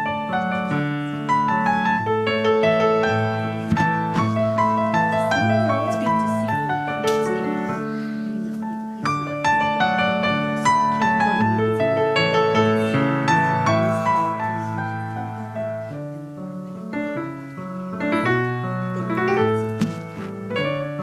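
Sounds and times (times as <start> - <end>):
solo piano piece: 0.0 - 21.0.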